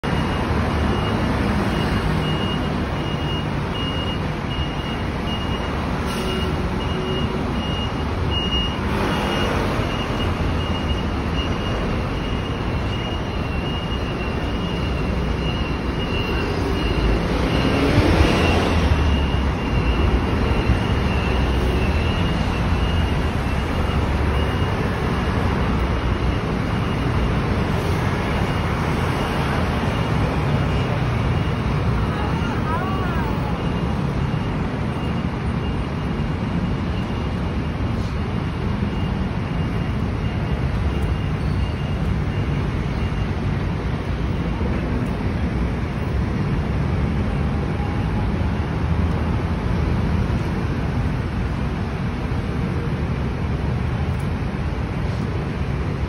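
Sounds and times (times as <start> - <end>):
traffic rumble: 0.0 - 56.0
vehicles passing close: 0.0 - 56.0.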